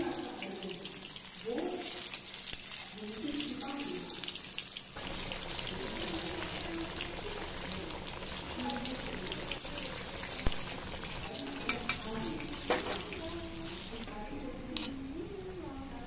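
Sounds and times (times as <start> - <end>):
food sizzling in hot oil: 0.0 - 14.1.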